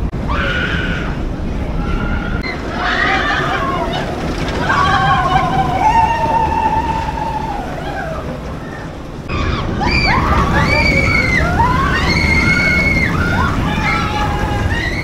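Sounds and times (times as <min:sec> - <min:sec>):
steady low rumble: 0:00.0 - 0:15.0
higher gliding calls: 0:00.2 - 0:15.0
people's drawn-out calls: 0:00.2 - 0:15.0.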